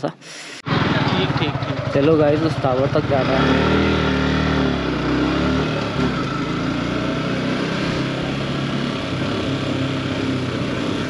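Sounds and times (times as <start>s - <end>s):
motorcycle engine running: 0.6s - 11.0s.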